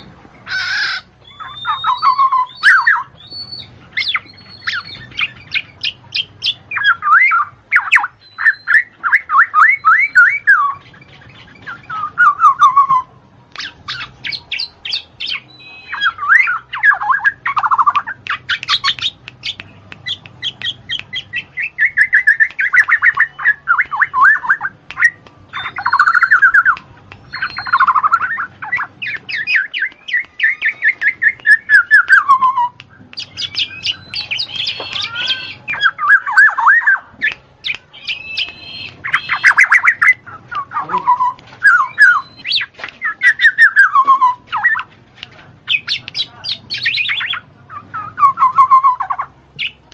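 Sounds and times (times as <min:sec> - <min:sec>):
songbird singing trills: 0:00.0 - 0:44.9, 0:45.6 - 0:49.9.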